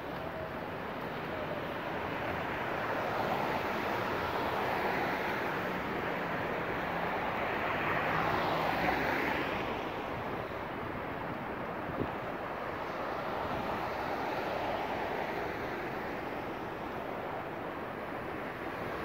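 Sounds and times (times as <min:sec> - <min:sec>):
traffic rushing past: 0:00.0 - 0:19.0.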